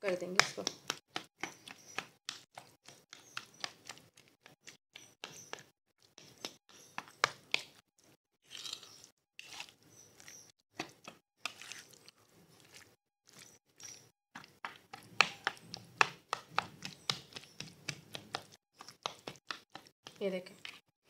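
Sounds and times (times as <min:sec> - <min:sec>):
wet squelching: 0:00.4 - 0:20.8.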